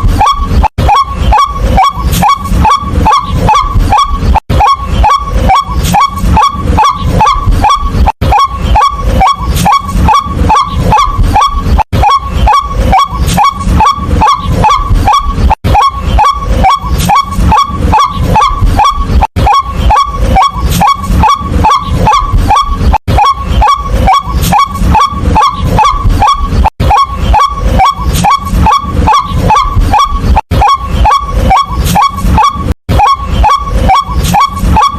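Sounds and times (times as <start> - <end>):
waterhen calling kwak notes: 0.0 - 34.9.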